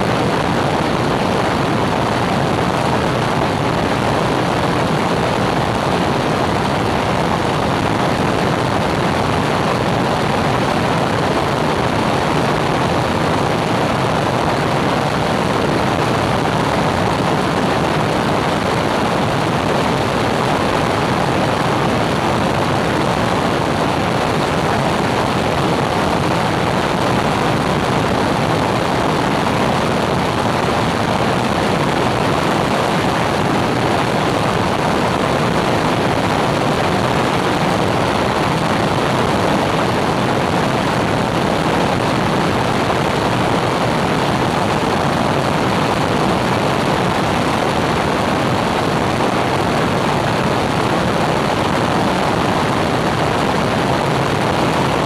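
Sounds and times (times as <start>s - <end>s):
propeller aeroplane in flight: 0.0s - 55.0s.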